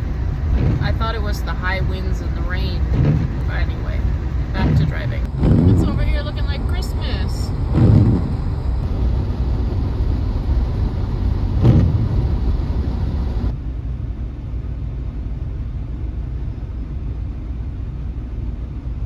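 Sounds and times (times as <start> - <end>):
van engine and tyre rumble: 0.0 - 19.0.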